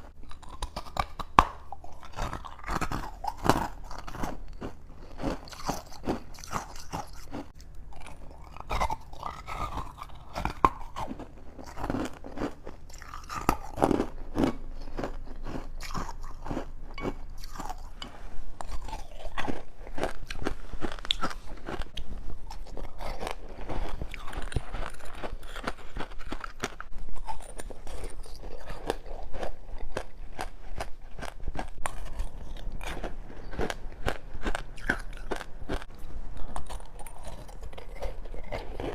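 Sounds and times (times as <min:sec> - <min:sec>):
person chewing crunchy ice: 0:00.0 - 0:38.9.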